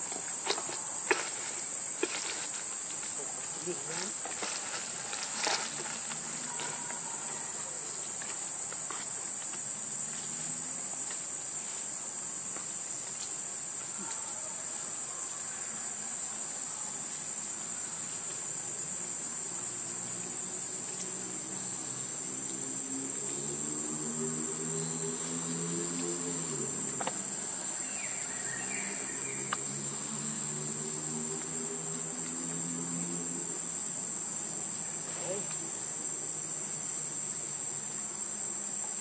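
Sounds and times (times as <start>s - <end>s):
insect drone: 0.0s - 39.0s.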